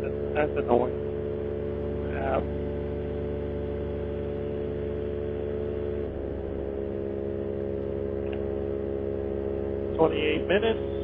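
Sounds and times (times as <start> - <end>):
paramotor engine droning: 0.0 - 11.0.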